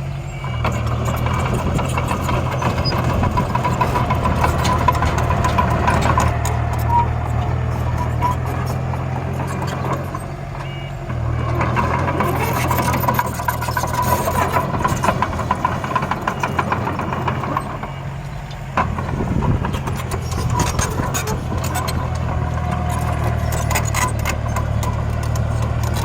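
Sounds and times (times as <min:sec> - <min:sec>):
heavy vehicle engine running: 0:00.0 - 0:26.0
clicks and rattles: 0:00.7 - 0:26.0.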